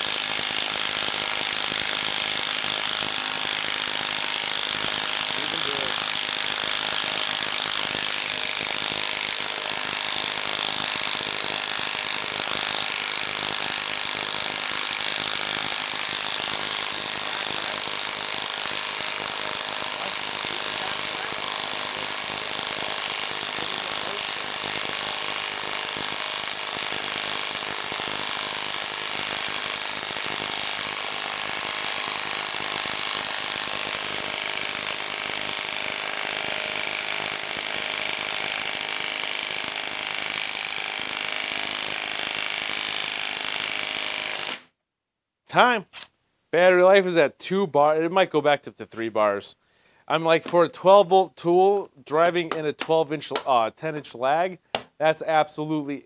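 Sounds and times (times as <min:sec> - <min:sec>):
impact wrench hammering: 0:00.0 - 0:44.6, 0:52.2 - 0:53.5, 0:54.7 - 0:55.0.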